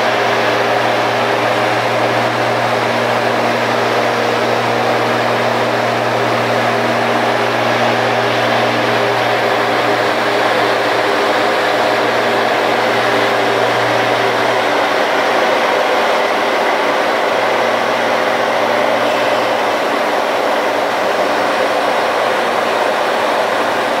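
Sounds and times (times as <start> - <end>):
axial fan air rush: 0.0 - 24.0.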